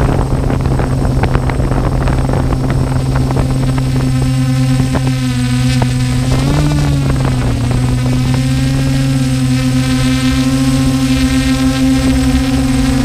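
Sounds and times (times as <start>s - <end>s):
drone motors buzzing: 0.0s - 13.0s
low rumble: 0.0s - 13.0s.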